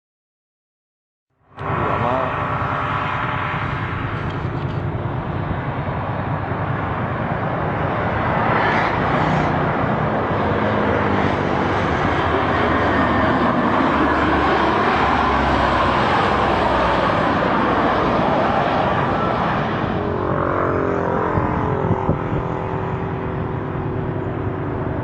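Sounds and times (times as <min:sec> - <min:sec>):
passing vehicle roar: 0:01.4 - 0:25.0.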